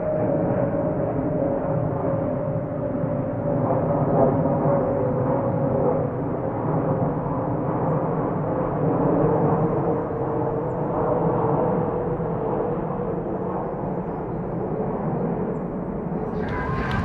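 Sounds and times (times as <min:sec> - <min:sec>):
jet engines rushing overhead: 0:00.0 - 0:17.0.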